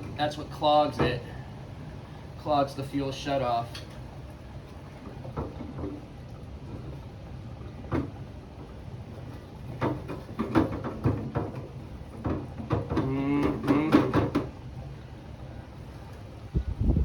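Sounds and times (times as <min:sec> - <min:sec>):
siphon pump humming: 0:00.0 - 0:17.0.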